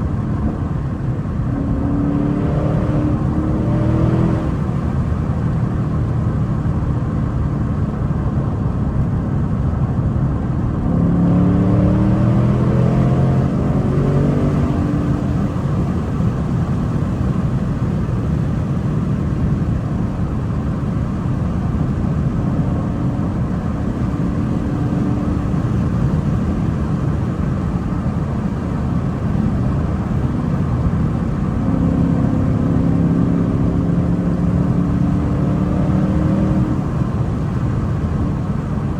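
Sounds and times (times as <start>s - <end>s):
car engine accelerating: 0.0s - 38.9s
road noise: 0.0s - 38.9s.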